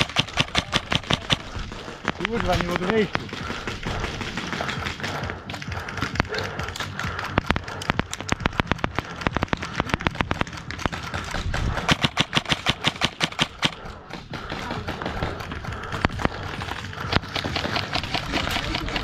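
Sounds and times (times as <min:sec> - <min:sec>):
airsoft guns firing: 0:00.0 - 0:19.0.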